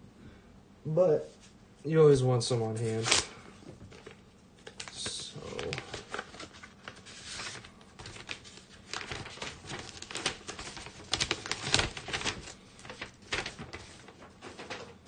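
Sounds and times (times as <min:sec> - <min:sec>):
packaging crinkling and rustling: 0:02.7 - 0:15.0.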